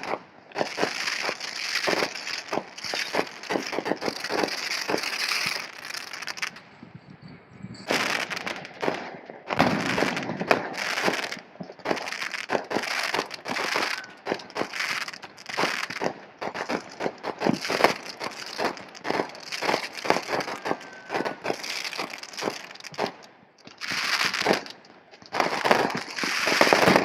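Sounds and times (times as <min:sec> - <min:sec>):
fireworks crackling: 0:00.0 - 0:06.8, 0:07.8 - 0:27.0.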